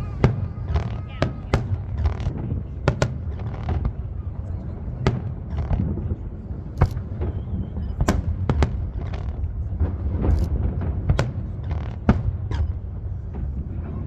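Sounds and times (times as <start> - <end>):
fireworks bangs: 0.0 - 14.0
low rumble: 0.0 - 14.0.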